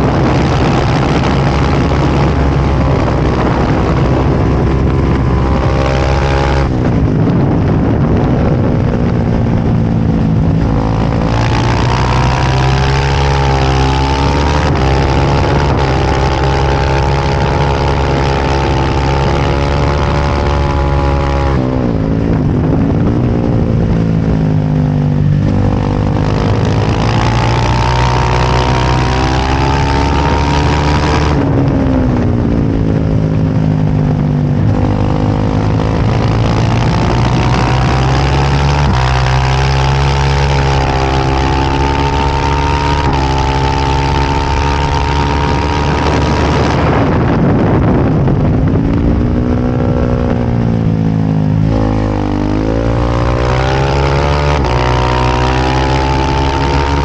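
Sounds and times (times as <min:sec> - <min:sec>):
motorcycle engine at racing revs: 0:00.0 - 0:57.0
wind rush: 0:00.0 - 0:57.0.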